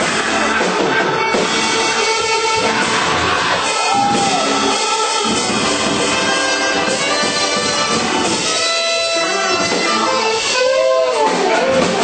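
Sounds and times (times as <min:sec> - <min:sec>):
live church band playing: 0:00.0 - 0:12.0
sustained horn-like tones: 0:00.0 - 0:12.0.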